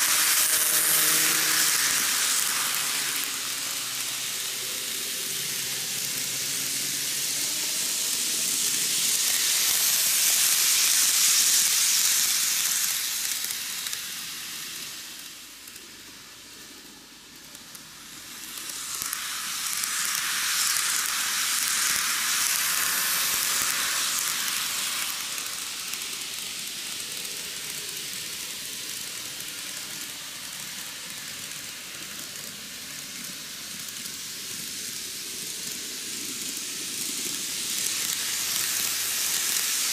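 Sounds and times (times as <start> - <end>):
model trains whirring on rails: 0.0 - 39.9.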